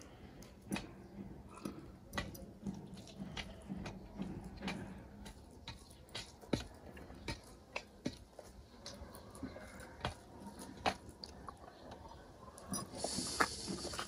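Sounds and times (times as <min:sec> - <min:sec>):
fingers mixing rice on steel plate: 0:00.0 - 0:14.0
chewing smacks: 0:00.4 - 0:14.0.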